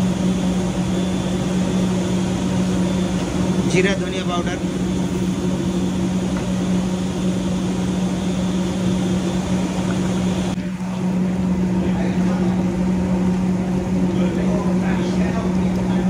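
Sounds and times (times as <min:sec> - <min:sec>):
gas burners and ventilation hum: 0:00.0 - 0:16.0.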